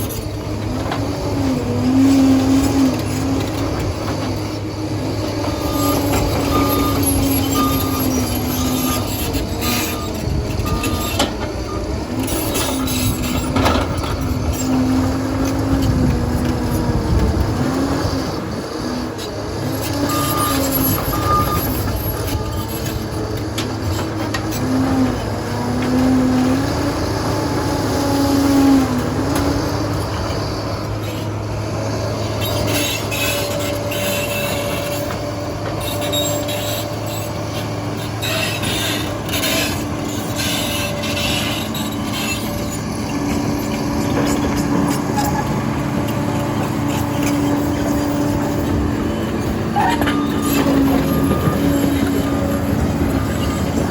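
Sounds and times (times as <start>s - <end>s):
bulldozer diesel engine running: 0.0s - 53.9s
steel tracks clanking and squealing: 0.0s - 53.9s.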